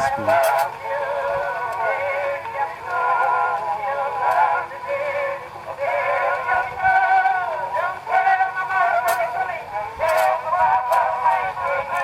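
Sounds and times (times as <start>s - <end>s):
phonograph playing hawaiian music: 0.0s - 12.0s
singing on old record: 0.0s - 12.0s.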